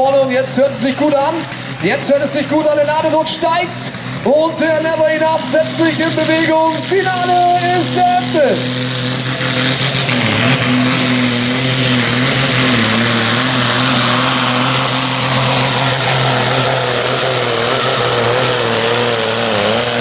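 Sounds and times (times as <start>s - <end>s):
tractor diesel engine at full load: 0.0s - 20.0s.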